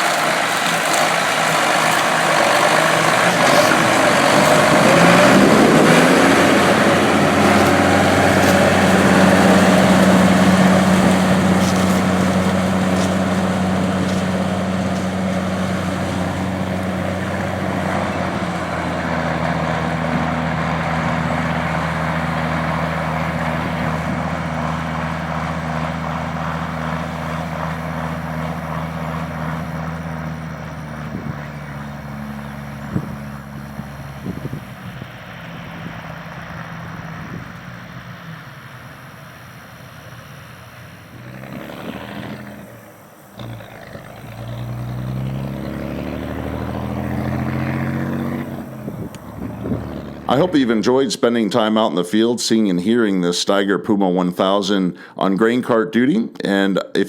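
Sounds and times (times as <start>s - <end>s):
diesel engine revving: 0.0s - 53.6s.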